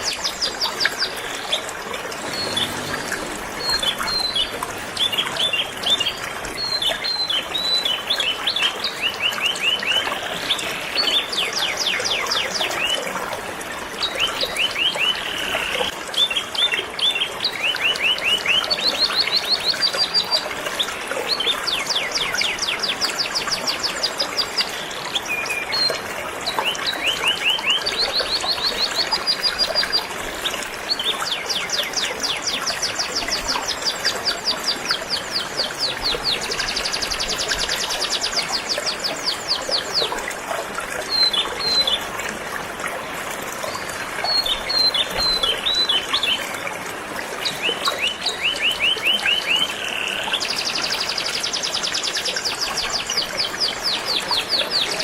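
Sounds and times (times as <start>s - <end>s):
flowing river rushing: 0.0s - 55.0s.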